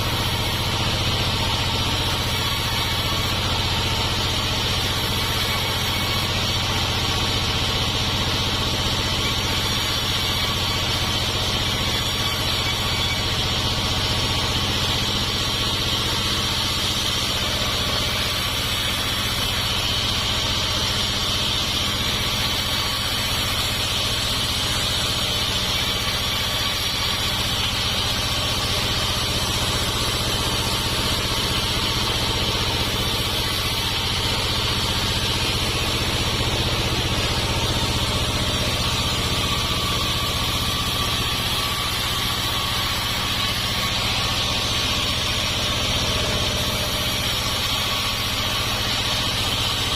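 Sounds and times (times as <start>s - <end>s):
sawmill engine and saw humming: 0.0s - 49.9s.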